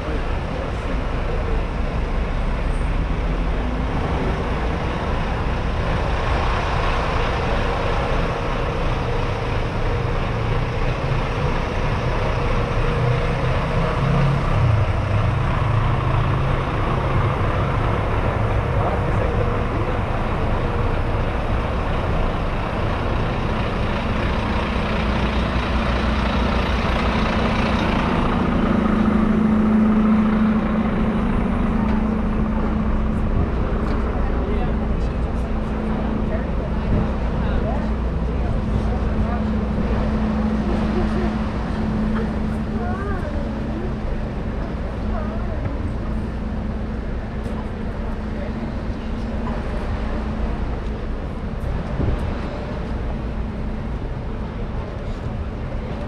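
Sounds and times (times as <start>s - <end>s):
bus engine humming: 0.0s - 56.0s
cars passing: 0.0s - 56.0s.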